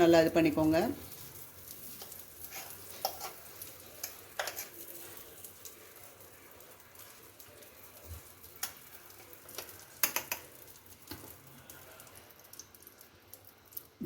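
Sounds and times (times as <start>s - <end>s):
butter sizzling: 0.0s - 14.0s.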